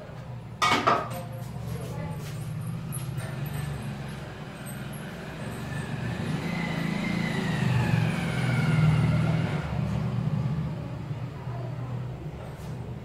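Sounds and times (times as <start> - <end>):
motor vehicle passing: 1.6 - 13.0.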